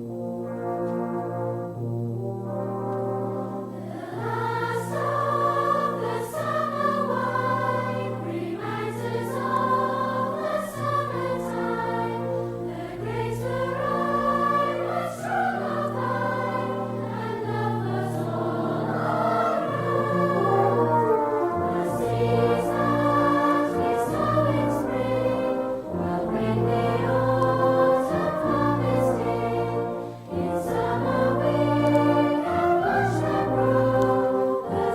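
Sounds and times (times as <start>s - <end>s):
choir singing sustained chords: 0.0s - 34.9s.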